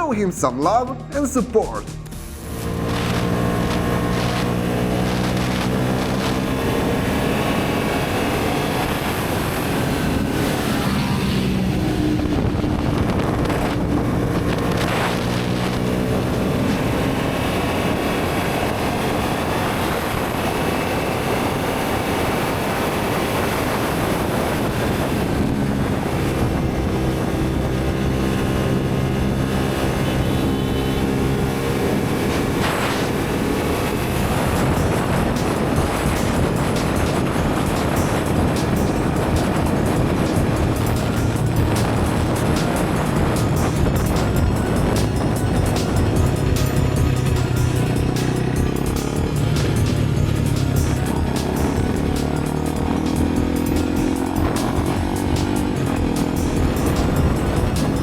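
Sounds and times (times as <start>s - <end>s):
road noise: 0.0s - 58.0s
motorcycle engine running: 2.1s - 58.0s
wind rushing over microphone: 2.4s - 58.0s.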